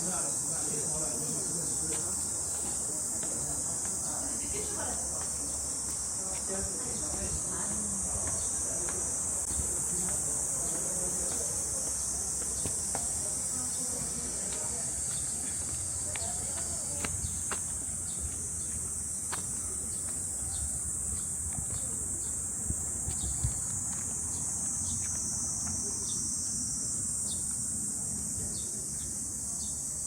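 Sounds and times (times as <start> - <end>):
cicadas droning: 0.0 - 30.0.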